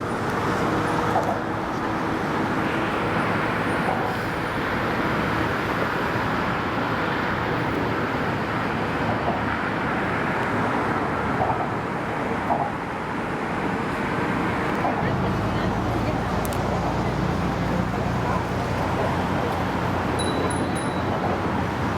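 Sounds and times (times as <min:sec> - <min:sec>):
road traffic hum: 0:00.0 - 0:21.9.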